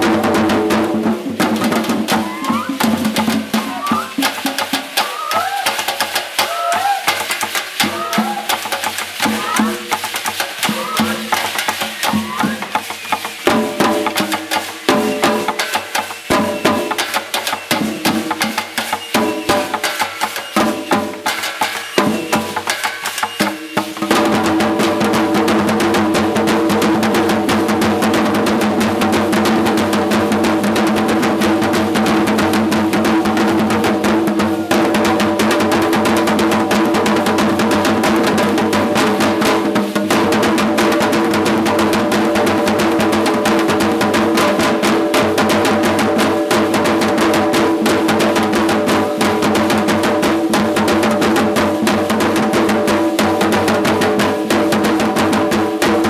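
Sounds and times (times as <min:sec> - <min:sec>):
rapid drumming: 0:00.0 - 0:56.0.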